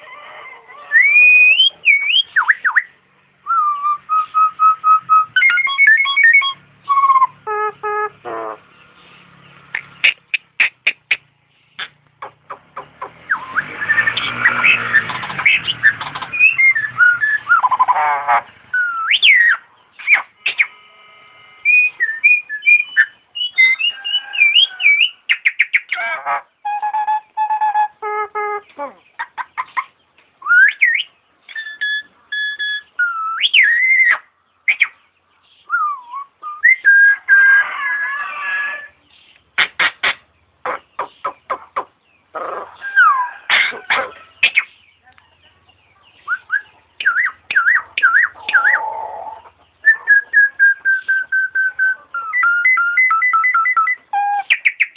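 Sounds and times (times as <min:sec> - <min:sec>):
starling mimicry song: 0:00.0 - 0:54.9.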